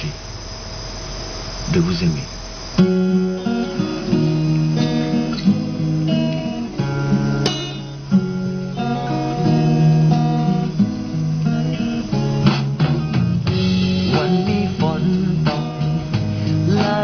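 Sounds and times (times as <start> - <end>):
acoustic guitar chords: 1.7 - 17.0.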